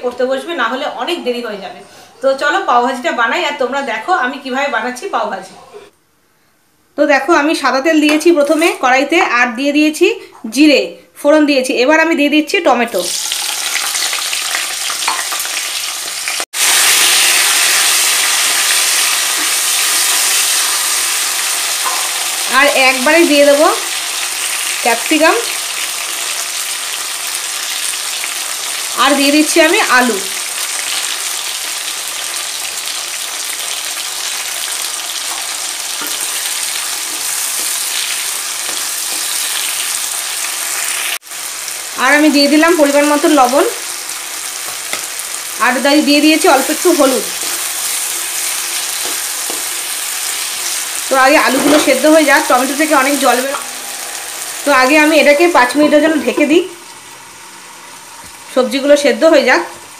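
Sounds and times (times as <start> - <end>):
tomatoes sizzling in hot oil: 8.0 - 9.2, 12.9 - 59.9.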